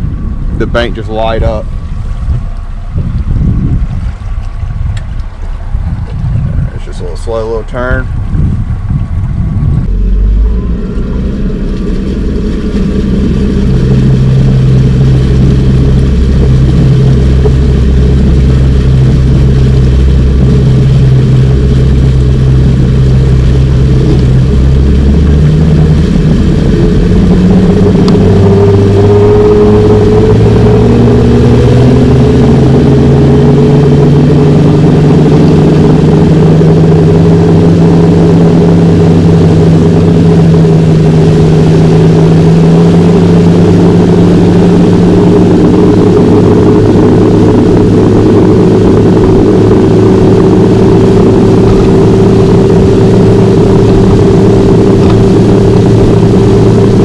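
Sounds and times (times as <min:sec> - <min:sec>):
outboard engine running: 0:00.0 - 0:57.0.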